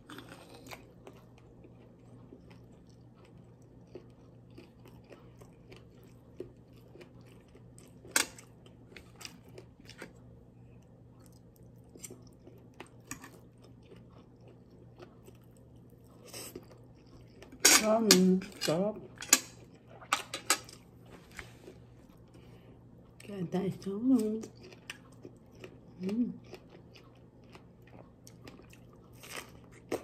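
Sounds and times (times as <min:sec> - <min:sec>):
person chewing food: 0:00.0 - 0:17.7, 0:19.0 - 0:23.2, 0:24.2 - 0:30.0.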